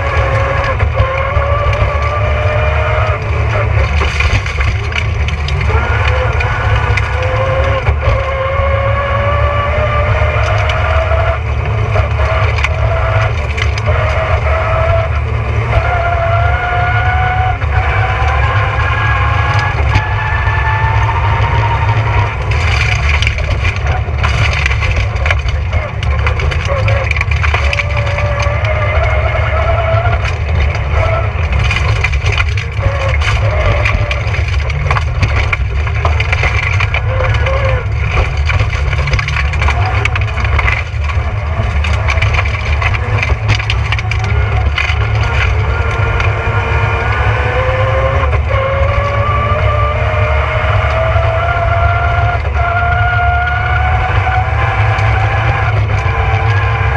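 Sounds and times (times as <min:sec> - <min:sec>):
gravel clattering against car: 0:00.0 - 0:56.9
rally car engine revving: 0:00.0 - 0:56.9.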